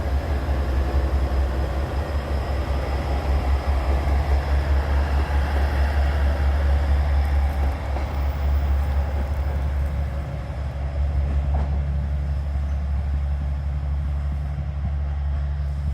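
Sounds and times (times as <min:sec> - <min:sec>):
diesel railcar engine drone: 0:00.0 - 0:15.9
rail and mechanical noise: 0:00.0 - 0:15.9.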